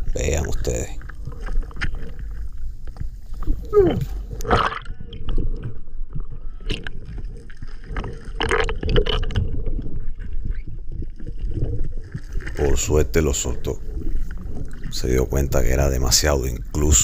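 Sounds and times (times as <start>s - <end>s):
water rushing and gurgling underwater: 0.0s - 17.0s.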